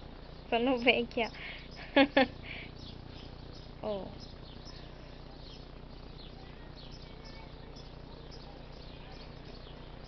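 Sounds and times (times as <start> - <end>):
low background hum: 0.0 - 10.0
small birds chirping: 0.0 - 10.0.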